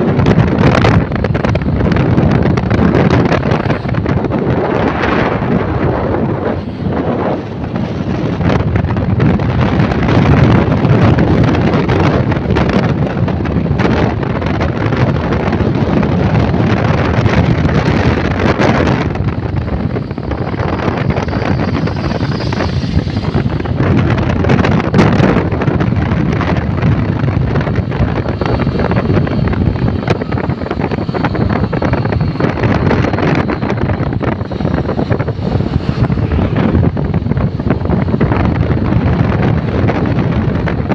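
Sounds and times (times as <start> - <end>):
motorcycle road noise: 0.0 - 40.9
wind buffeting microphone: 0.0 - 40.9.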